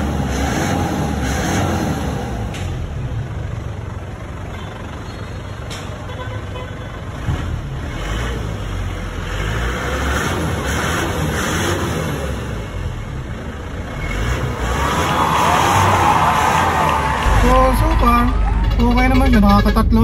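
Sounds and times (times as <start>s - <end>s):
motor vehicle rumbling: 0.0s - 20.0s
road noise: 0.0s - 20.0s.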